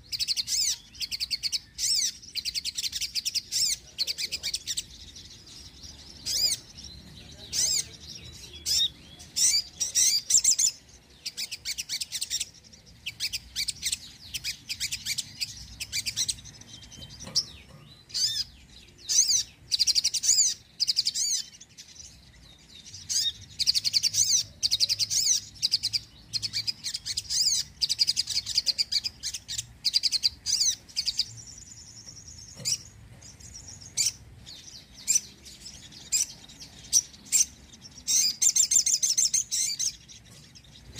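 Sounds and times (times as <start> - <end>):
bird twittering chirps and trills: 0.0 - 40.9.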